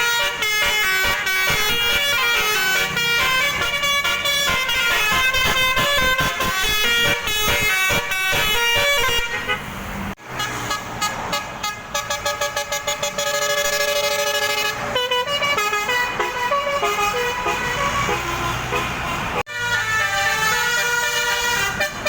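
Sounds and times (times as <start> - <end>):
multi-trumpet bus horn playing a tune: 0.0 - 22.0.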